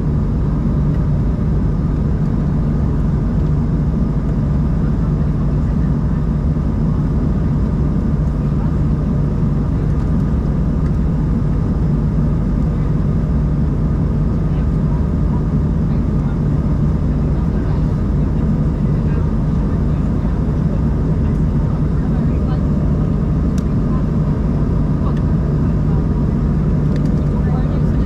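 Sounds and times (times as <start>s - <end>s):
airliner cabin drone: 0.0s - 28.0s
jet engines humming: 0.0s - 28.0s.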